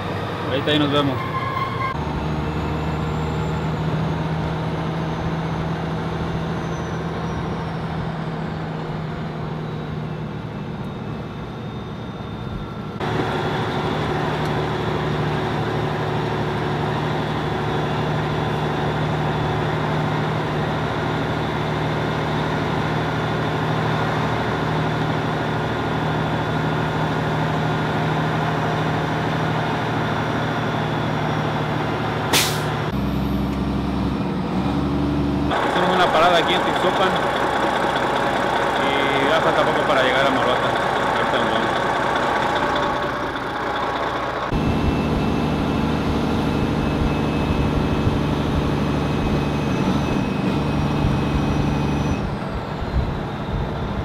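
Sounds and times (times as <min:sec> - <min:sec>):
truck engine running: 0:01.9 - 0:54.0.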